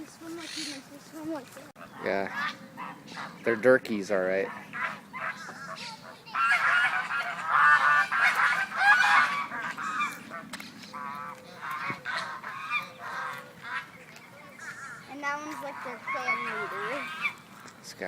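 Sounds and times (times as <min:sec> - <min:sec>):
waterfowl honking: 0:01.8 - 0:17.7.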